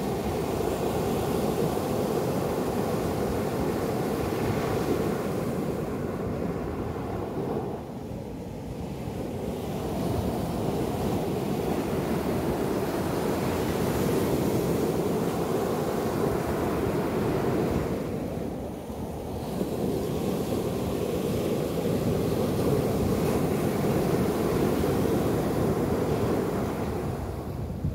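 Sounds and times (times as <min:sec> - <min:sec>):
small waves washing on sand: 0:00.0 - 0:27.9.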